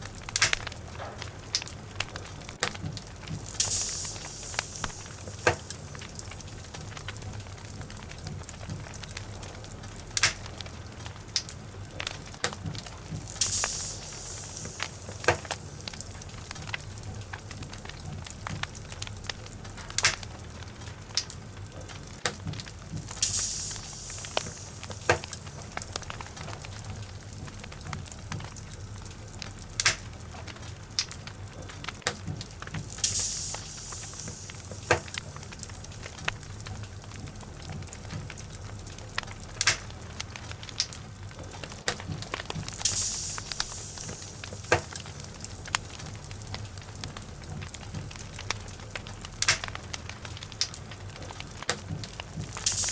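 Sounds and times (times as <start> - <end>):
soft hiss: 0.0 - 21.1, 22.3 - 52.9
fire crackling and popping: 0.0 - 52.9
low rumble of flames: 0.0 - 52.9.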